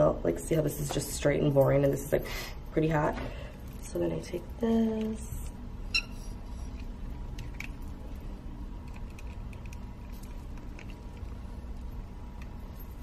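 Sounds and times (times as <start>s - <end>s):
faint clicks and rustles of hair: 0.4s - 5.6s, 6.3s - 13.0s.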